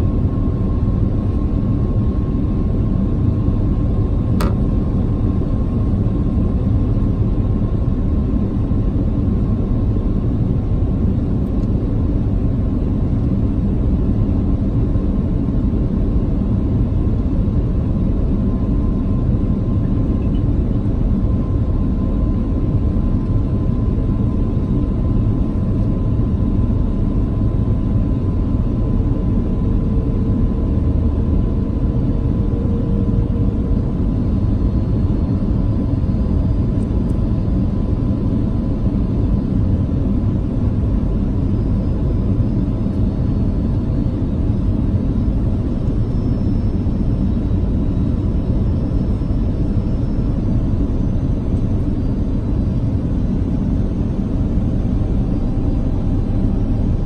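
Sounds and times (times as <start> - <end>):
airliner cabin rumble: 0.0 - 57.0
faint steady whine: 0.0 - 57.0.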